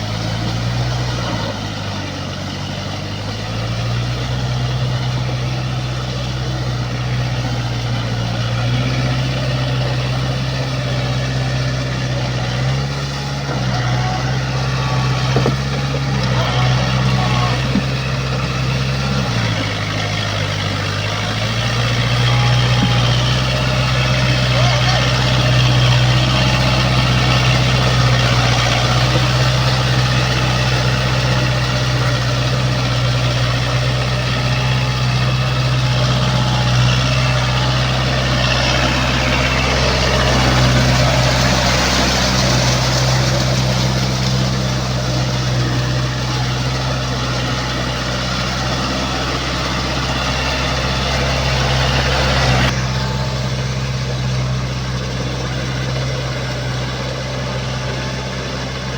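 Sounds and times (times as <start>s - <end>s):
rotavator mechanical clatter: 0.0s - 58.9s
tractor diesel engine running: 0.0s - 58.9s.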